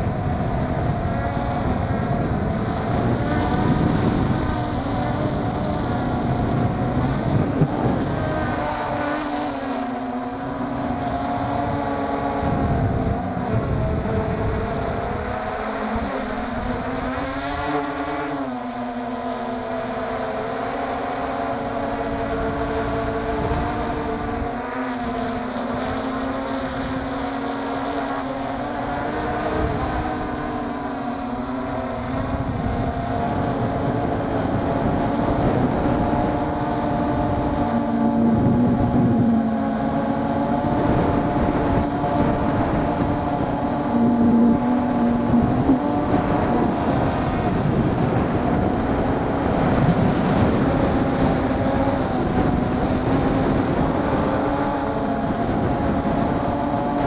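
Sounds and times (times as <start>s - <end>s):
drone motors whining: 0.0s - 57.0s
wind on microphone: 0.0s - 57.0s.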